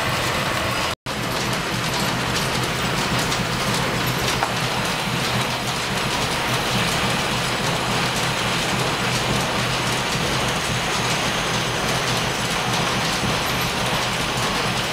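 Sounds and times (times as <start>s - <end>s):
metal lathe clattering: 0.0s - 14.9s.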